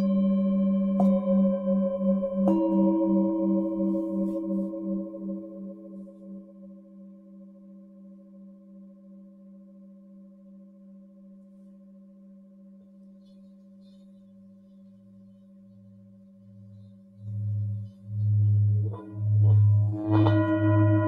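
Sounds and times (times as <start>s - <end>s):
deep pulsing bowl tone: 0.0s - 11.4s, 12.0s - 21.0s
singing bowls ringing: 0.0s - 21.0s.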